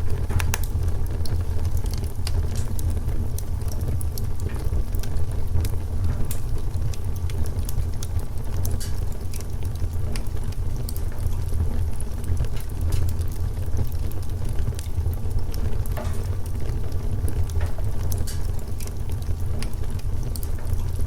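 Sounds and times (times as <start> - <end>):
low rumble of fire: 0.0 - 21.0
wood fire crackling: 0.0 - 21.0.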